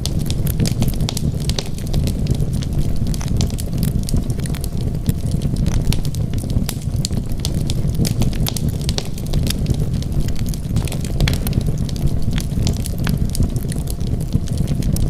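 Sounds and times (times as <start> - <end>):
burning wood crackling and popping: 0.0 - 15.0
flames rumbling: 0.0 - 15.0.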